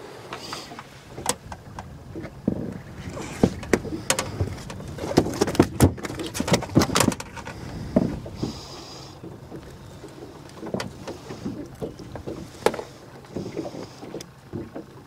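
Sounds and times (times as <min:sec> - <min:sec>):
fish slapping on boat deck: 0:00.4 - 0:08.9, 0:09.5 - 0:15.0.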